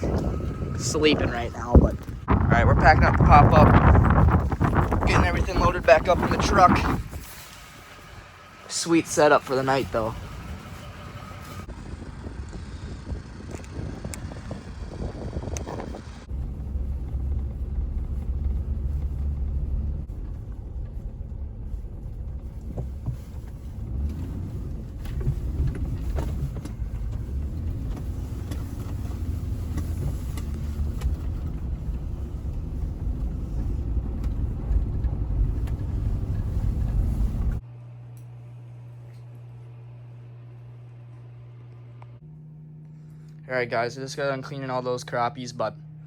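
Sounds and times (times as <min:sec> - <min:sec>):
pickup truck engine rumble: 0:00.0 - 0:37.6
low hum: 0:00.0 - 0:46.0.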